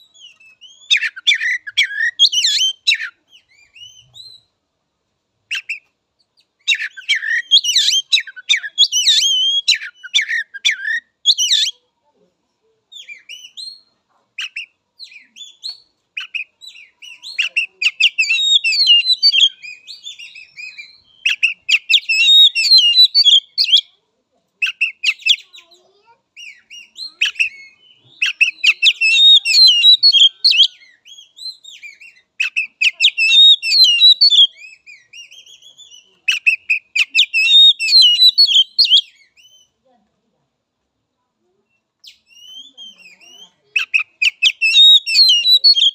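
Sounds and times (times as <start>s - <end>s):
bird singing whistles and chatter: 0.0s - 4.5s, 5.5s - 11.8s, 12.9s - 23.9s, 24.6s - 39.8s, 41.6s - 45.9s.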